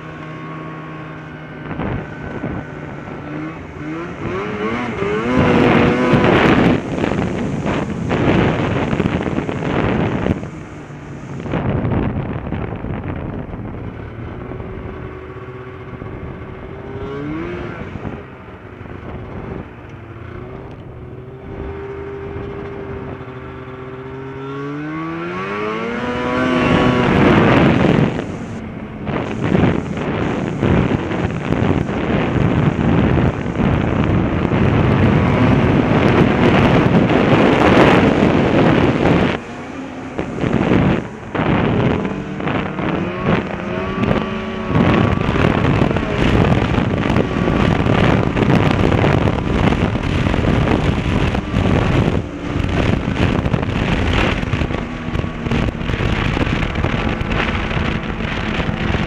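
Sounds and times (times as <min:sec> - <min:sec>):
snowmobile engine: 0:00.0 - 0:59.0
wind rushing over microphone: 0:00.0 - 0:59.0.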